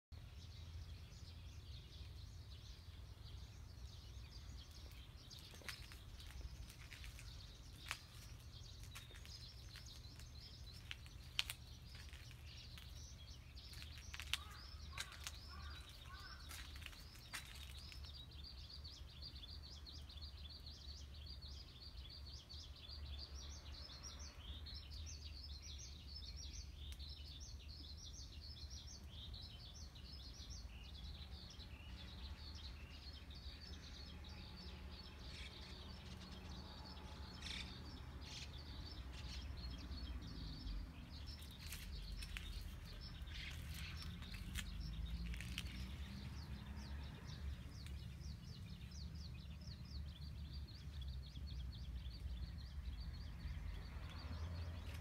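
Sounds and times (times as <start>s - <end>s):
birds chirping: 0.1s - 55.0s.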